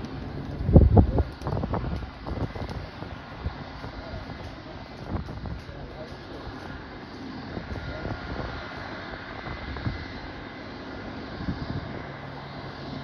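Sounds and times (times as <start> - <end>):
aircraft engine noise: 0.0 - 13.0.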